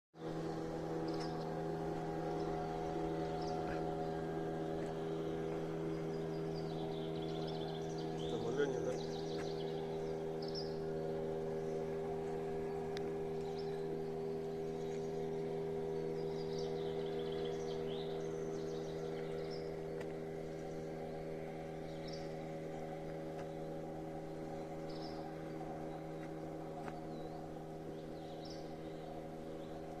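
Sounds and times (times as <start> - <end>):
steady low hum: 0.2 - 30.0
small birds chirping: 0.9 - 30.0.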